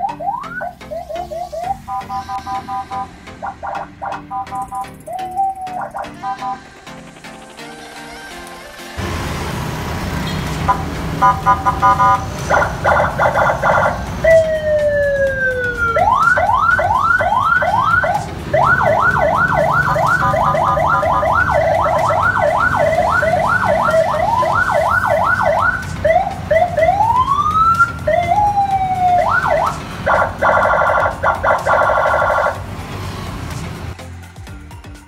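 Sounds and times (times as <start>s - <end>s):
electronic siren: 0.0s - 7.8s, 10.2s - 32.6s.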